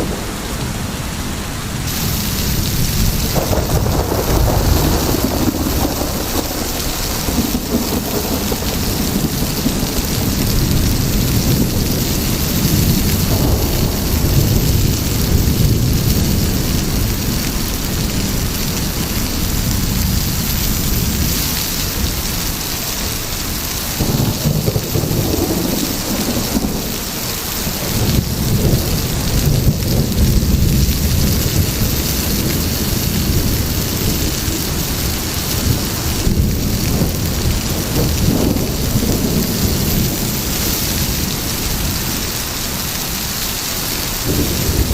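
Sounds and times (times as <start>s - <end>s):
heavy rain: 0.0s - 44.9s
low rolling thunder: 0.0s - 44.9s.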